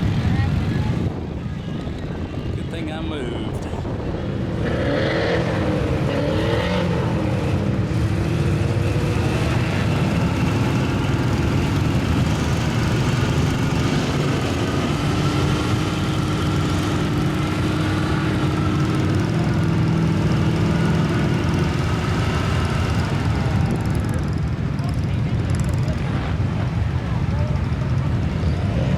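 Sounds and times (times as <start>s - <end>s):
truck engine running loud: 0.0s - 28.9s.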